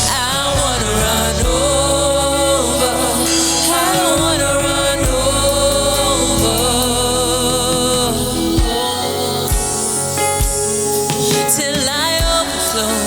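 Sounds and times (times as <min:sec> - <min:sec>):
band with sustained bass: 0:00.0 - 0:13.0
voices singing: 0:00.0 - 0:13.0.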